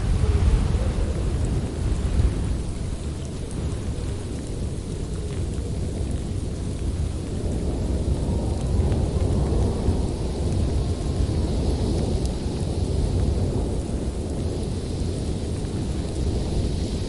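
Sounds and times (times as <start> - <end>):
wind blowing low rumbling rush: 0.0 - 17.0.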